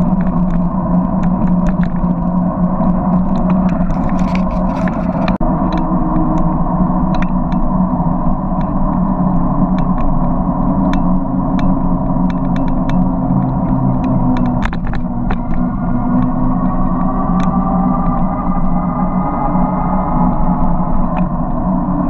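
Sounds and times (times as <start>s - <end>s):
ticks and rattles: 0.0s - 19.2s
low hum: 0.0s - 22.0s
road rumble: 0.0s - 22.0s
wind noise: 0.0s - 22.0s.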